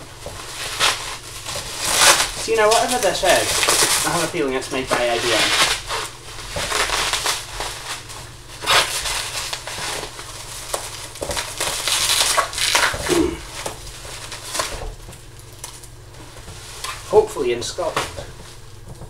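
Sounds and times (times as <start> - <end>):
plastic wrap crinkling: 0.0 - 19.0.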